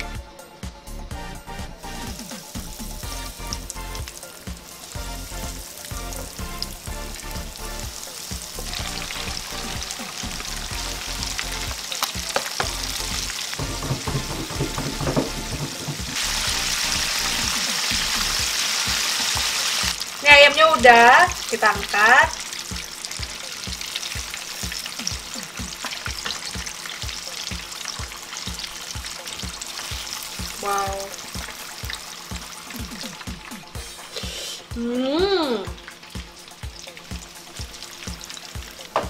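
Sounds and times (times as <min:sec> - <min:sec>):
background music with held notes: 0:00.0 - 0:39.0
chicken deep-frying in oil: 0:01.8 - 0:34.8, 0:35.6 - 0:39.0.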